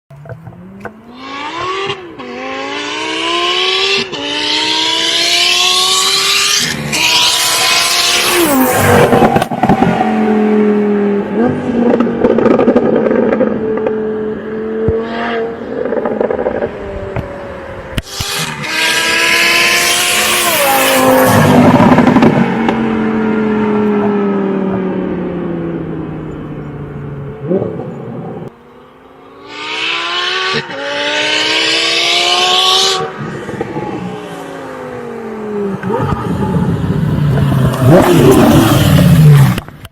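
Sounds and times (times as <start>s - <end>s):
car engine at full throttle: 0.1s - 39.9s.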